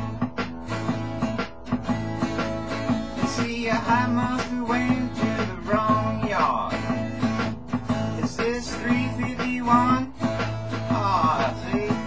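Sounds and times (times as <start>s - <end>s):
acoustic guitar strumming blues: 0.0s - 12.0s.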